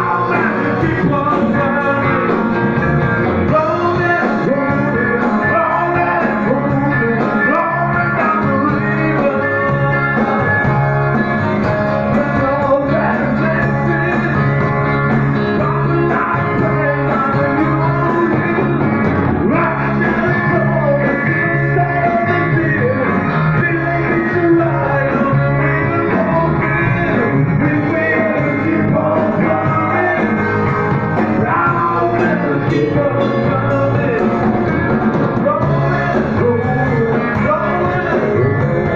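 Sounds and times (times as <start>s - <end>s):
drums: 0.0s - 38.9s
electric guitars: 0.0s - 38.9s
person singing: 0.0s - 38.9s.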